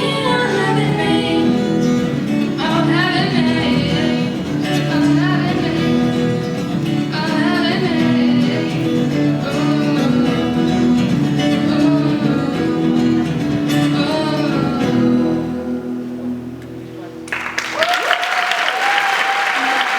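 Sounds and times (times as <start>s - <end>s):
person singing: 0.0s - 16.3s
acoustic guitar: 0.0s - 17.6s.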